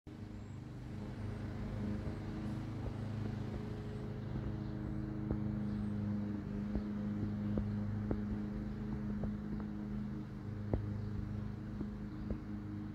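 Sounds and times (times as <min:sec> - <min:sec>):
low engine hum: 0:00.1 - 0:12.9.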